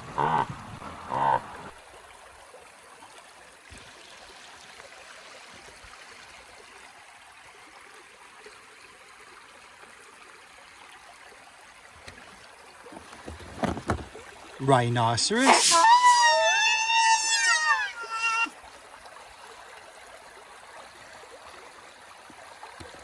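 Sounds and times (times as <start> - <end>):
small stream running: 0.0 - 23.0.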